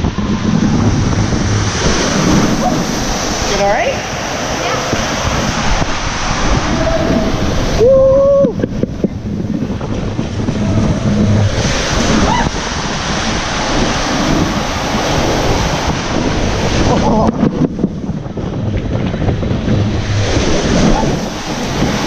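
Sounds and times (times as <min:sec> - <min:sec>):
water rushing under raft: 0:00.0 - 0:22.0
wind buffeting microphone: 0:00.0 - 0:22.0.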